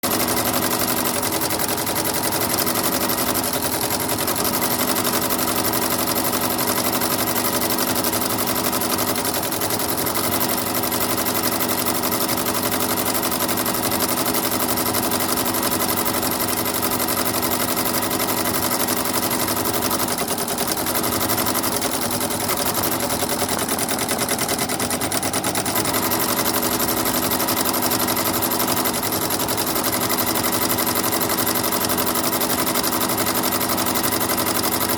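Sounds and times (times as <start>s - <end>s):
embroidery machine needle hammering: 0.0s - 34.9s.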